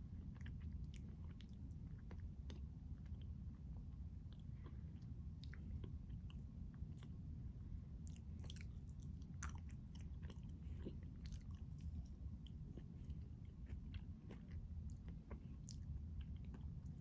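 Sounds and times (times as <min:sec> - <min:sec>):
chewing crunchy ice cream: 0:00.0 - 0:07.3, 0:08.0 - 0:17.0
low steady hum: 0:00.0 - 0:17.0.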